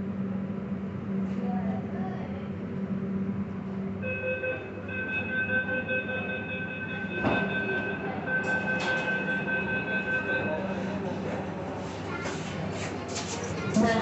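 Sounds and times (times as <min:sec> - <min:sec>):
metro train whine and rumble: 0:00.0 - 0:14.0.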